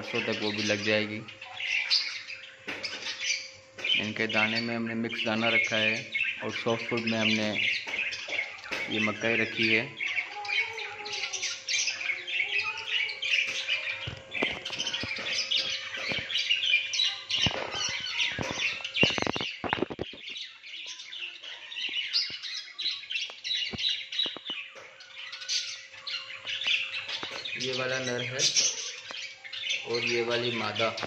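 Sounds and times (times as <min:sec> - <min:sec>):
caged birds chirping and squawking: 0:00.0 - 0:31.0.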